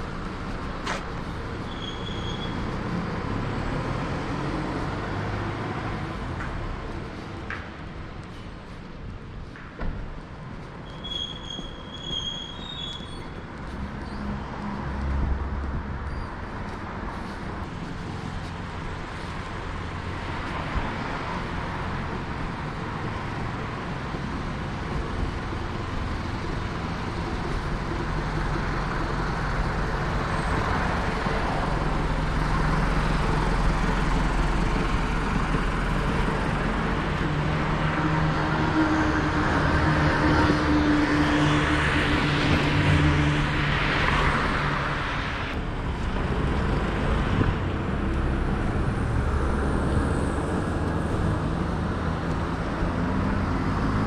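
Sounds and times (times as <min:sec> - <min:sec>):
vehicle engine hum: 0:00.0 - 0:54.0.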